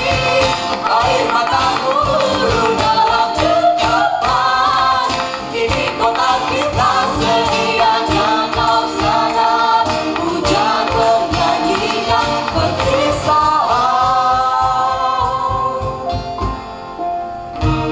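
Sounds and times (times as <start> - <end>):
young voices singing together: 0.0 - 16.3
steady percussive beat: 0.0 - 17.0.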